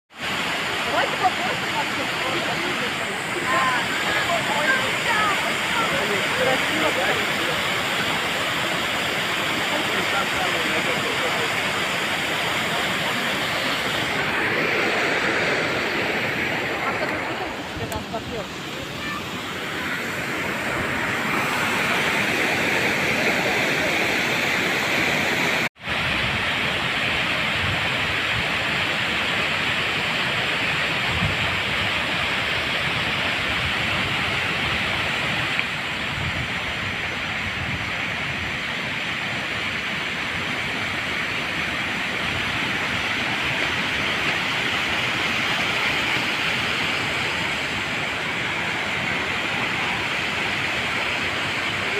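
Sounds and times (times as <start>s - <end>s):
waterfall rushing: 0.1s - 51.9s.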